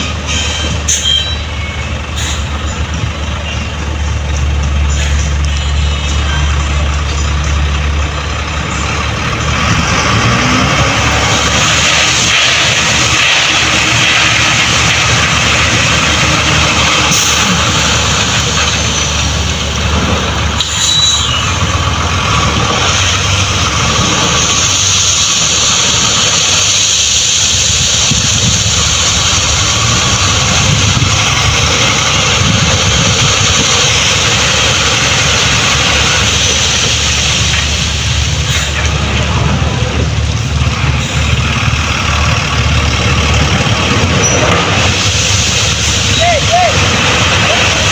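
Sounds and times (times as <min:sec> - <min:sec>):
heavy diesel machine running: 0:00.0 - 0:47.9.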